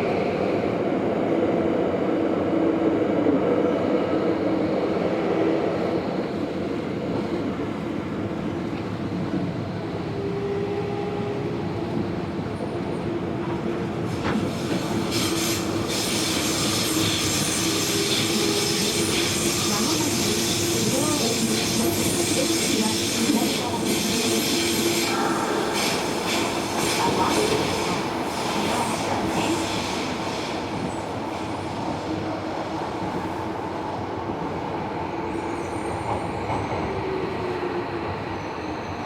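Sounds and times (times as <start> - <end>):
train wheels rumbling on rail: 3.0 - 39.0.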